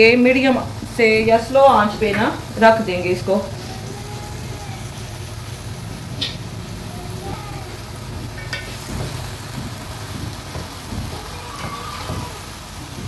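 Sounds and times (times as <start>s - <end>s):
steady low hum: 0.0s - 11.5s
spatula stirring vegetables in pan: 0.2s - 13.0s.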